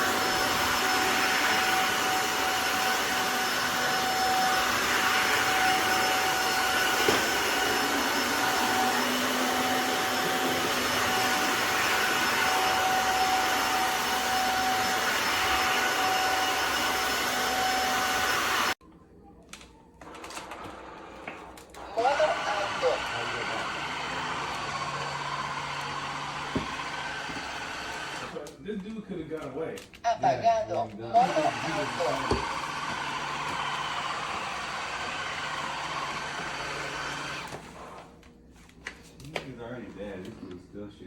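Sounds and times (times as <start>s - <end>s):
vacuum cleaner whining: 0.0s - 18.8s, 20.0s - 28.5s, 31.0s - 38.2s.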